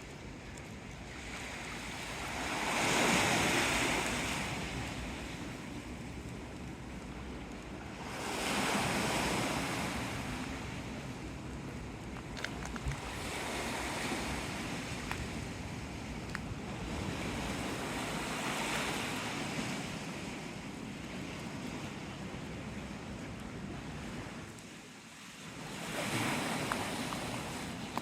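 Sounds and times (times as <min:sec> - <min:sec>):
wind buffeting microphone: 0:00.0 - 0:24.6
waves washing against shore: 0:00.0 - 0:28.0.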